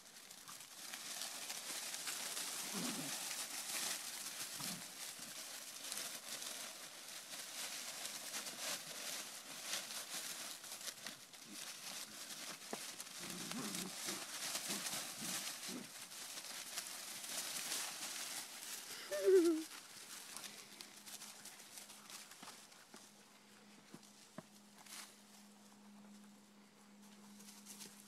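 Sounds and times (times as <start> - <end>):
dry leaves rustling and crunching: 0.0 - 23.2, 23.9 - 26.2, 27.2 - 28.0.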